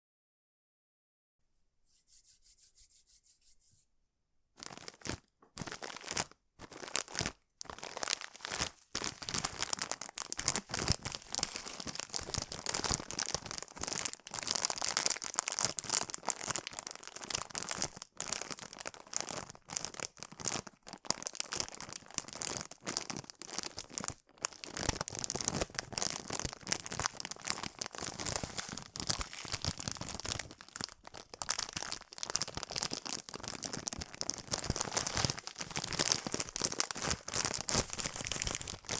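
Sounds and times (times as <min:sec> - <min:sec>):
plastic bag crinkling: 0:04.6 - 0:38.9.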